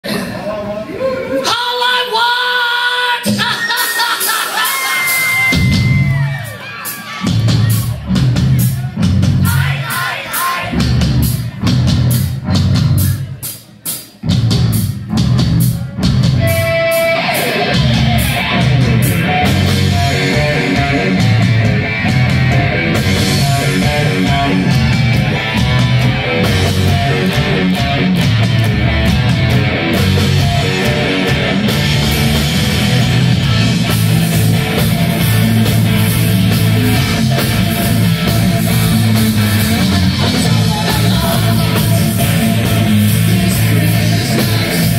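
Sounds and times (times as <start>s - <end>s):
heavy metal band playing: 1.5s - 44.9s.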